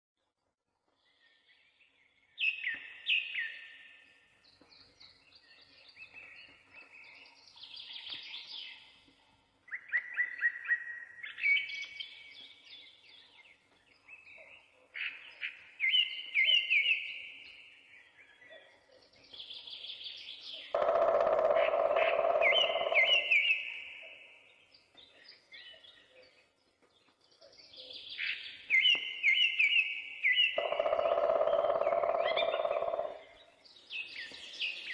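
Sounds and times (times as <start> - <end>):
songbirds singing: 0.4 - 34.9.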